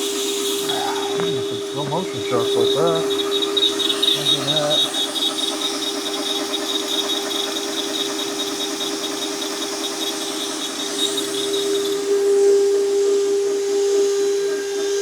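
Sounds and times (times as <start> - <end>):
end mill cutting metal: 0.0 - 15.0
router spindle whine: 0.0 - 15.0.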